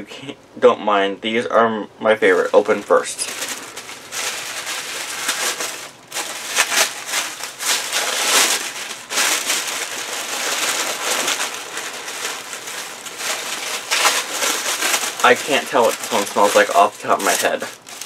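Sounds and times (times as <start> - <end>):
tissue paper rustling: 2.2 - 18.0.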